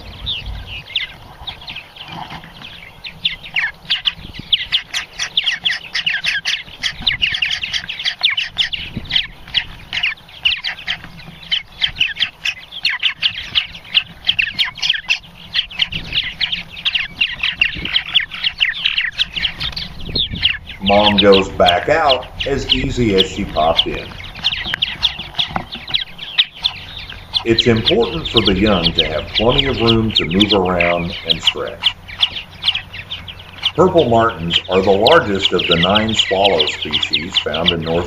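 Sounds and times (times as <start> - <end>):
birds chattering: 0.0 - 38.0.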